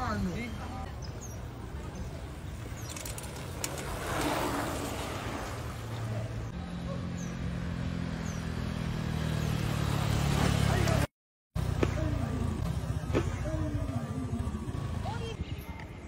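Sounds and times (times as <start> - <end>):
street noise: 0.0 - 16.0.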